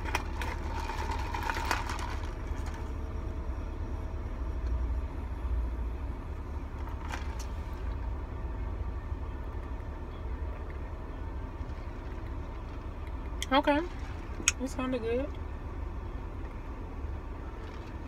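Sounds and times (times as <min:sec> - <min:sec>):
air conditioning blowing: 0:00.0 - 0:18.0
car engine idling: 0:00.0 - 0:18.0.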